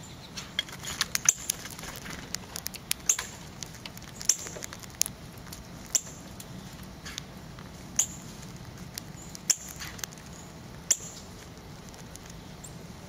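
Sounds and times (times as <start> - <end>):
bird cracking seeds clicks: 0.6 - 12.5.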